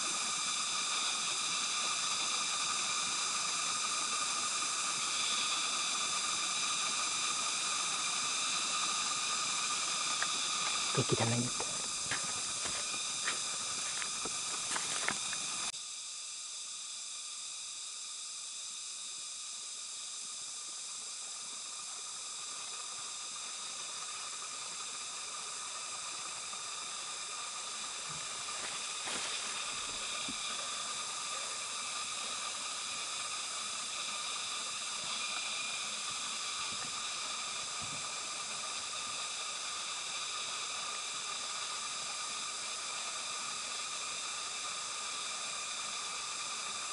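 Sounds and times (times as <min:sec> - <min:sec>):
insect chorus hiss: 0:00.0 - 0:46.9.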